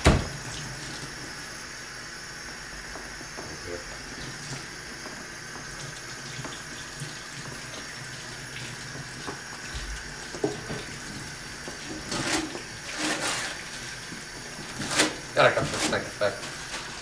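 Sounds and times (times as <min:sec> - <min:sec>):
tap water running into sink: 0:02.8 - 0:17.0.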